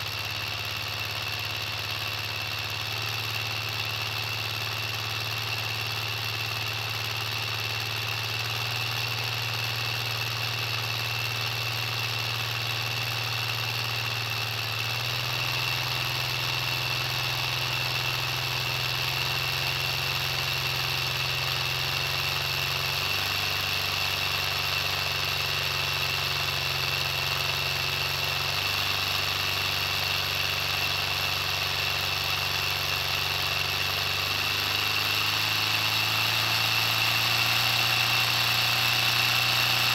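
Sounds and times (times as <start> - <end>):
toy engine low hum: 0.0 - 39.9.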